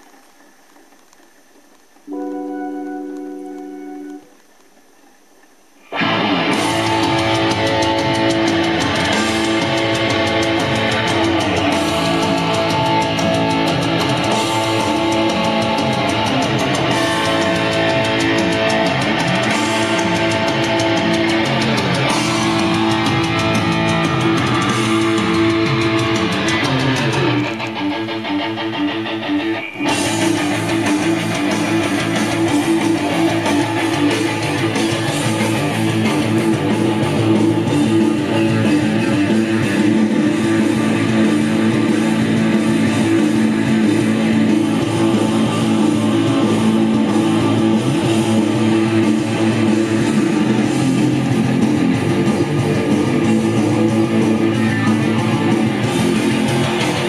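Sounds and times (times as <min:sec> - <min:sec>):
guitar-led rock music: 0:02.1 - 0:04.4, 0:05.9 - 0:57.0.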